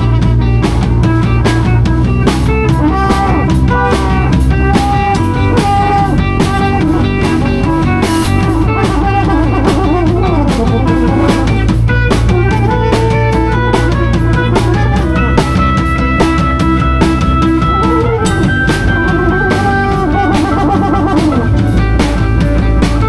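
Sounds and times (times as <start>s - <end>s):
drum kit steady beat: 0.0s - 23.0s
guitar lines: 0.0s - 23.0s.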